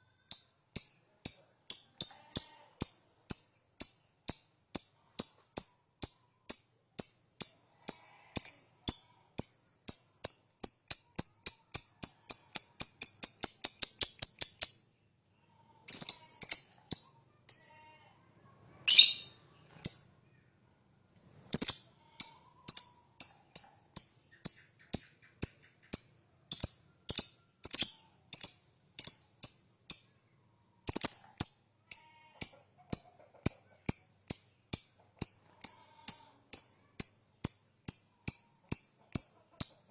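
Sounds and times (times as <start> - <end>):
lovebird chipping and chattering: 0.3 - 14.8, 15.9 - 17.6, 18.9 - 20.1, 21.5 - 30.1, 30.9 - 39.9.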